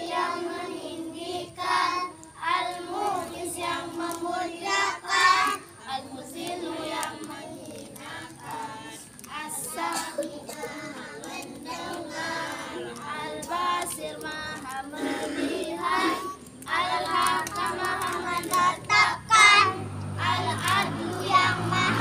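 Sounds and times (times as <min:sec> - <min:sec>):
children singing in unison: 0:00.0 - 0:22.0
woman singing: 0:02.4 - 0:22.0.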